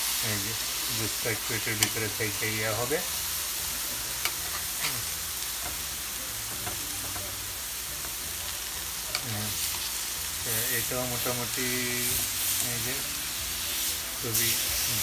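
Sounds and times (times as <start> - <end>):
patties sizzling on a griddle: 0.0 - 15.0.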